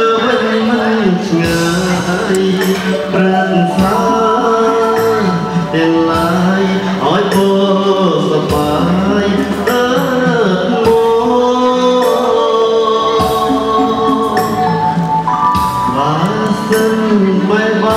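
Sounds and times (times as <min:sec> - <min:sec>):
sustained instrumental tones: 0:00.0 - 0:17.8
person singing: 0:00.0 - 0:17.9.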